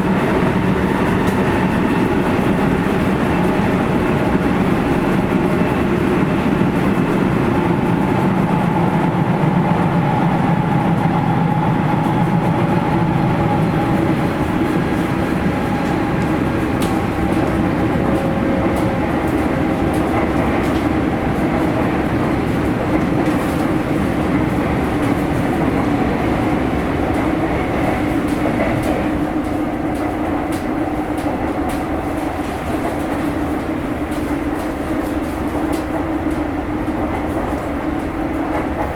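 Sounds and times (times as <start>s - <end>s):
wheel on rail rumble: 0.0s - 38.9s.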